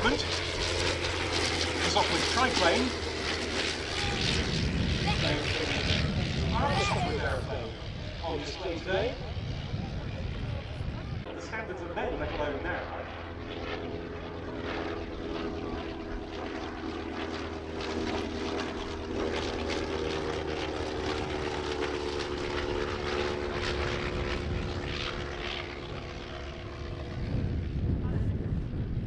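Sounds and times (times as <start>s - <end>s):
rotary aircraft engine in flight: 0.0s - 29.0s.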